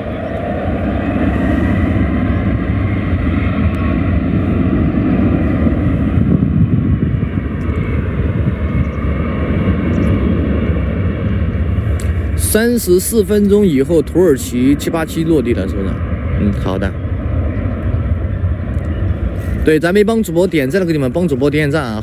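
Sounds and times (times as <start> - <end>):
faint jet whine: 0.0 - 22.0
jet engines at takeoff thrust: 0.0 - 22.0.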